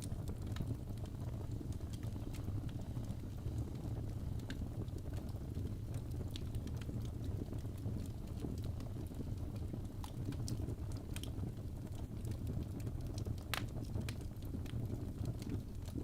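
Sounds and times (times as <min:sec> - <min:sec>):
fire flames rumbling: 0:00.0 - 0:16.0
logs crackling and popping: 0:00.0 - 0:16.0.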